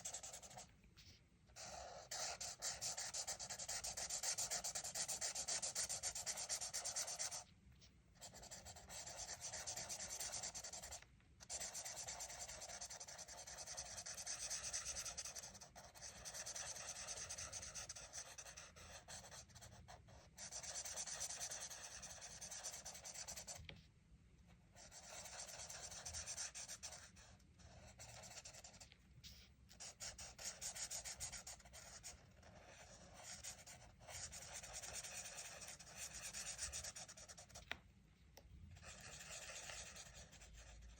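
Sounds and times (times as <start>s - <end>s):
colouring tool scratching on paper: 0.0s - 7.5s, 8.2s - 23.7s, 24.8s - 37.6s, 38.8s - 40.9s.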